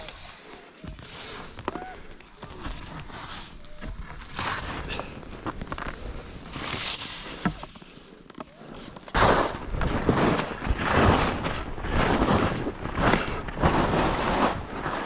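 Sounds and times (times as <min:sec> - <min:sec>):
skis scraping through snow: 0:00.0 - 0:08.0, 0:08.6 - 0:15.0.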